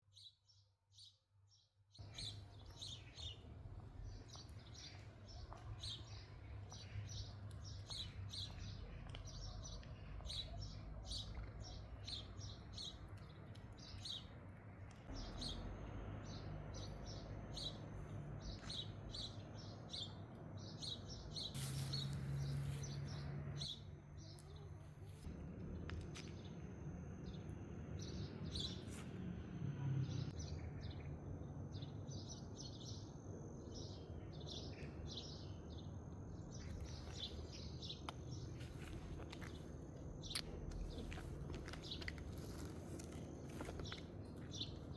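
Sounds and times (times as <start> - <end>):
small birds chirping: 0.0 - 26.6, 27.2 - 44.9
low outdoor rumble: 2.0 - 44.9.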